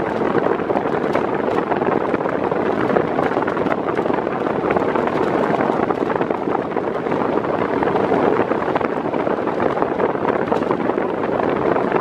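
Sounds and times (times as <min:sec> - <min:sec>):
fan blowing air: 0:00.0 - 0:12.0
wind buffeting microphone: 0:00.0 - 0:12.0.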